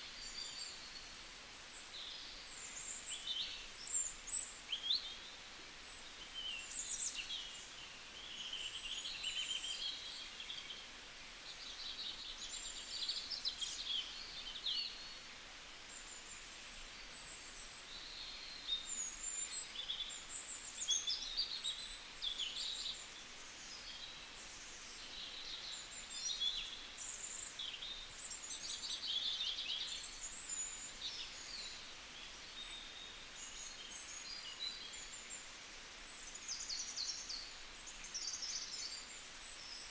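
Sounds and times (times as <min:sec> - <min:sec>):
faint steady hiss: 0:00.0 - 0:39.9
small birds chirping and singing: 0:00.0 - 0:39.9.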